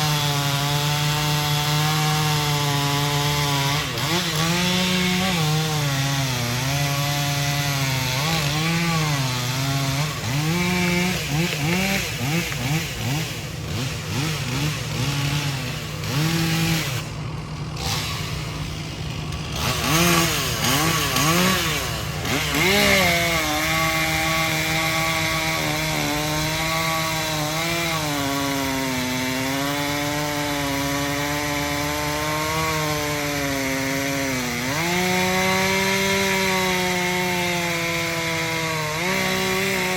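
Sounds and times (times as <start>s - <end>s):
engine running under load: 0.0s - 39.9s.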